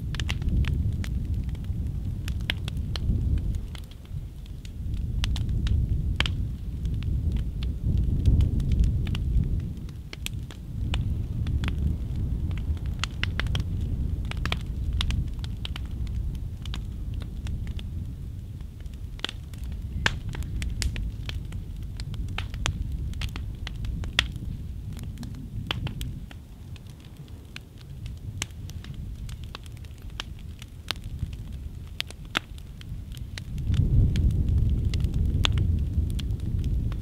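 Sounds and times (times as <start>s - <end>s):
fire crackling and popping: 0.0s - 37.0s
low rumble of flame: 0.0s - 37.0s.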